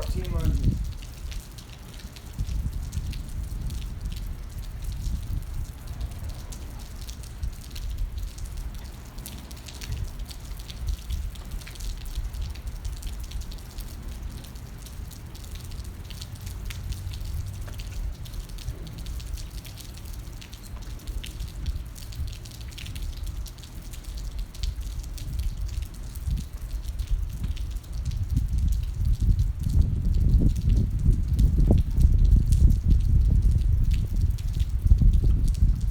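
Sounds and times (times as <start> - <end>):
steady low rumble: 0.0 - 1.5, 2.4 - 35.9
rain dripping and pattering: 0.0 - 35.9.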